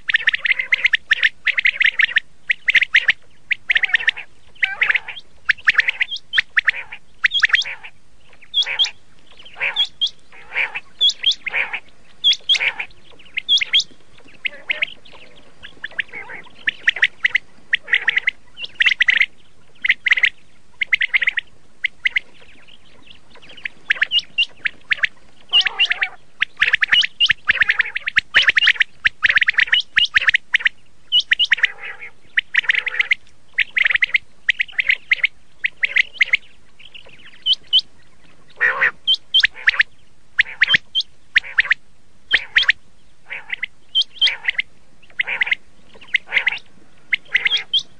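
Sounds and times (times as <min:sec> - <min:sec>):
quail calling: 0:00.0 - 0:47.9.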